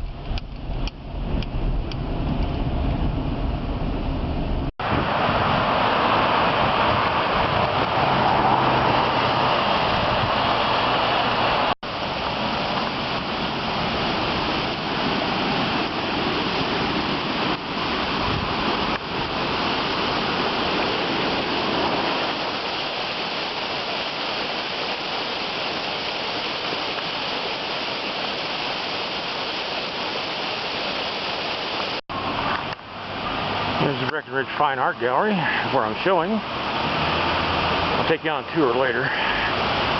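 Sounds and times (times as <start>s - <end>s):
road and tyre noise in car: 0.0s - 25.0s, 31.8s - 39.9s.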